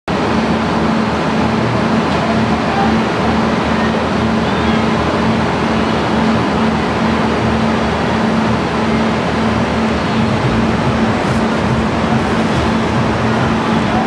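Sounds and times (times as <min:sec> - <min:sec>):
diesel engine idling: 0:00.2 - 0:14.0.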